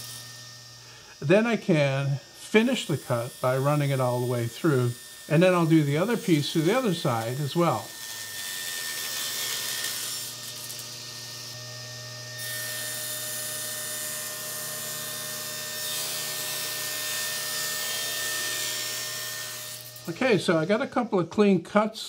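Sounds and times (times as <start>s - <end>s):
table saw cutting plywood: 0.0s - 21.2s.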